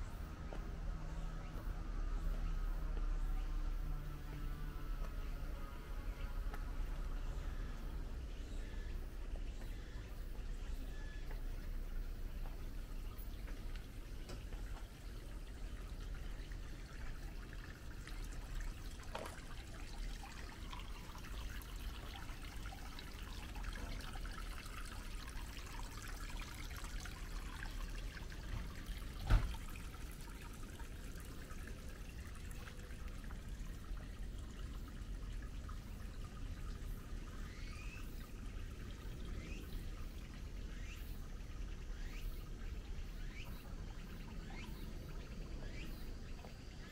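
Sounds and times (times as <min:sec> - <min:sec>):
water trickling: 0:00.0 - 0:46.9.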